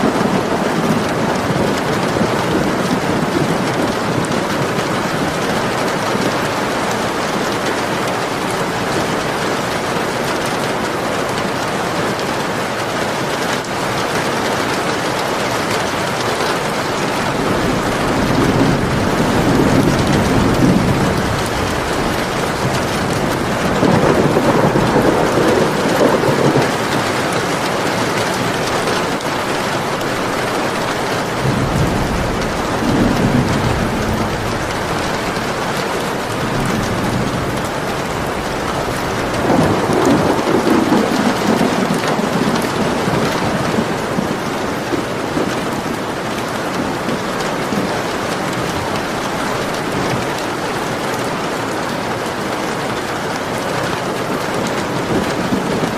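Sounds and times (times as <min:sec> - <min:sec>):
low thunder rumbles: 0:00.0 - 0:11.0, 0:16.5 - 0:51.5
steady rain: 0:00.0 - 0:55.9.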